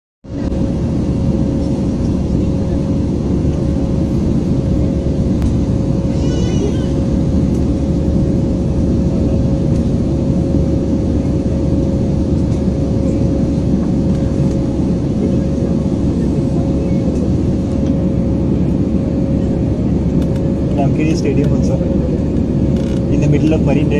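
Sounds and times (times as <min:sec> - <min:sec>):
constant hum: 0:00.3 - 0:23.9
jet engine roar in cabin: 0:00.3 - 0:23.9.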